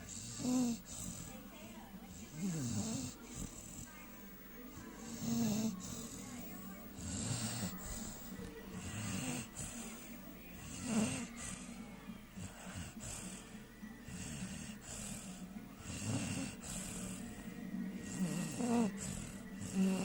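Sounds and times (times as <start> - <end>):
puppy snoring: 0.0 - 20.0.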